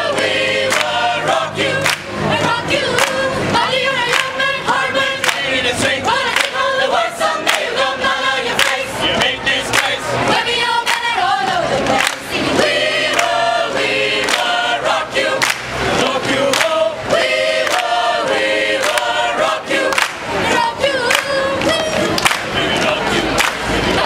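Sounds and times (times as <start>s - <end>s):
mixed choir singing: 0.0s - 24.0s
hand claps keeping time: 0.1s - 7.8s, 8.5s - 10.1s, 10.8s - 11.2s, 11.8s - 24.0s.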